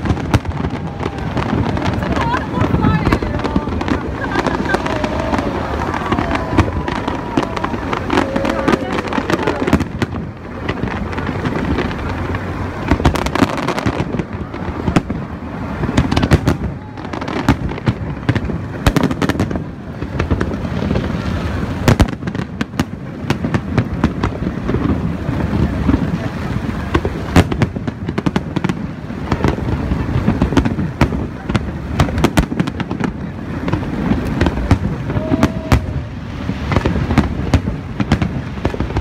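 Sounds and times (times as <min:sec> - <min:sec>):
fireworks bangs and pops: 0:00.0 - 0:39.0.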